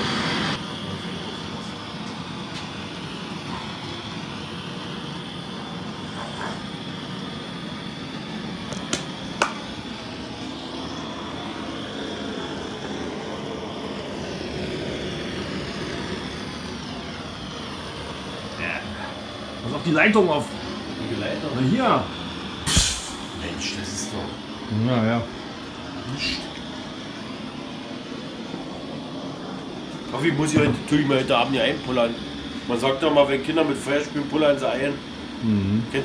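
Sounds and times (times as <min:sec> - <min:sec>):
blowtorch flame hissing: 0:00.0 - 0:36.0.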